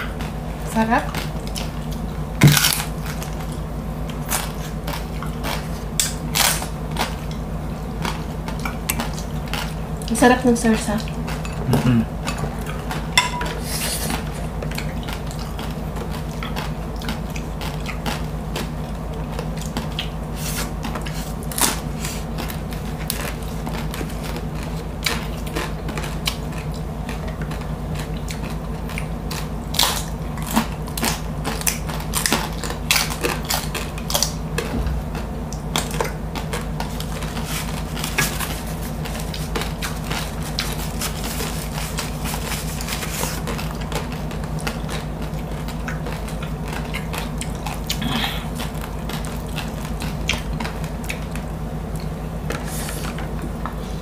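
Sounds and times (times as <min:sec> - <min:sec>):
crunchy chewing: 0:00.0 - 0:10.1, 0:10.7 - 0:54.0
steady low hum: 0:00.0 - 0:54.0.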